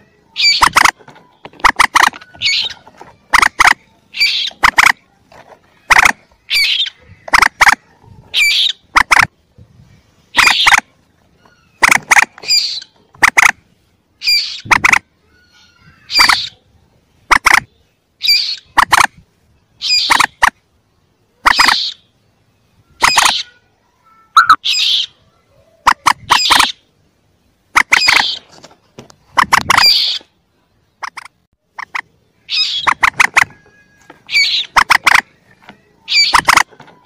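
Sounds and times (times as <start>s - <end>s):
moorhen chick squeaky calls: 0.0s - 5.1s, 5.7s - 9.4s, 10.2s - 13.6s, 14.2s - 20.6s, 21.4s - 22.2s, 22.8s - 23.6s, 24.3s - 26.9s, 27.7s - 28.6s, 29.2s - 30.4s, 31.0s - 37.0s.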